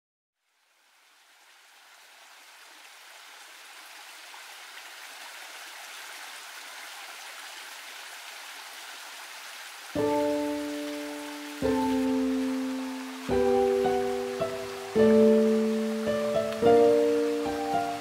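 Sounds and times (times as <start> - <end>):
stream water rushing over rock: 0.6 - 18.0.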